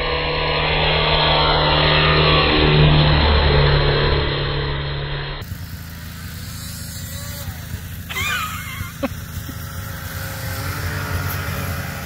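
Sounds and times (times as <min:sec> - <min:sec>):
snowmobile engine droning: 0:00.0 - 0:12.0.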